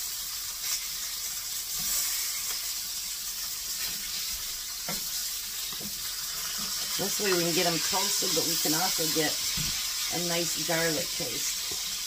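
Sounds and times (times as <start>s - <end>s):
patties sizzling in a frying pan: 0.0s - 12.0s.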